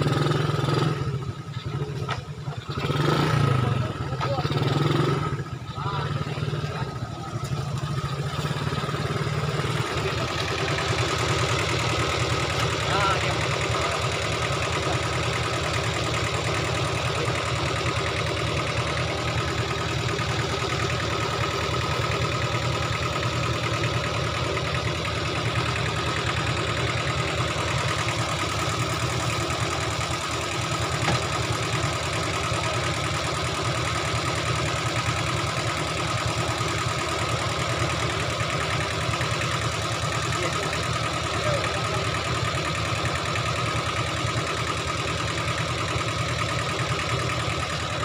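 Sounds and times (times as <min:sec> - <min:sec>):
tractor diesel engine idling: 0:00.0 - 0:48.0.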